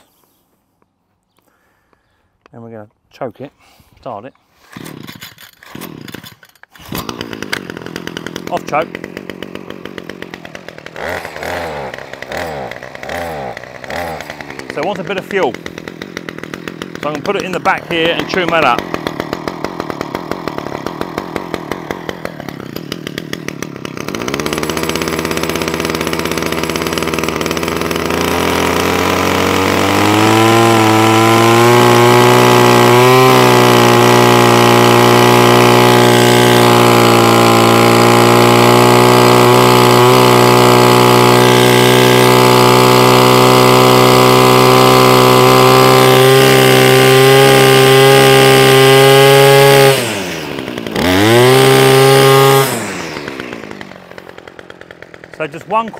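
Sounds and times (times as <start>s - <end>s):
small petrol engine idling and revving: 4.6s - 55.9s.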